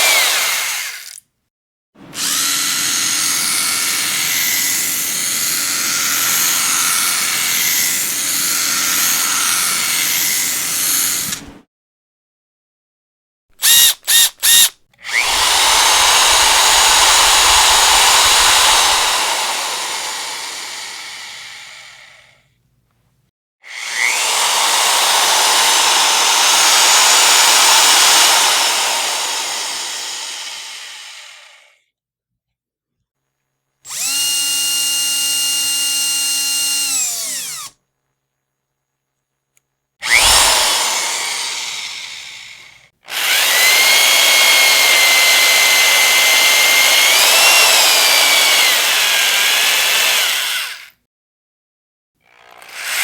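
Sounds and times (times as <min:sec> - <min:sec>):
electric power drill: 0:00.0 - 0:01.2, 0:02.0 - 0:11.4, 0:13.6 - 0:22.4, 0:23.6 - 0:31.8, 0:33.9 - 0:37.8, 0:40.0 - 0:51.0, 0:52.2 - 0:53.0.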